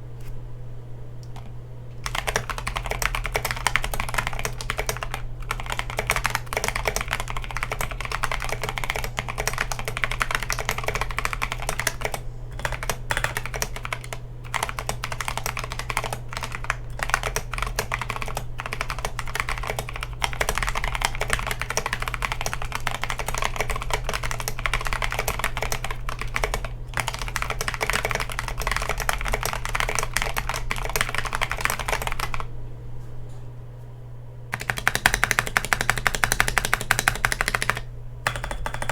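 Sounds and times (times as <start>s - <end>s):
mechanical keyboard typing: 1.3s - 32.5s, 34.5s - 38.9s.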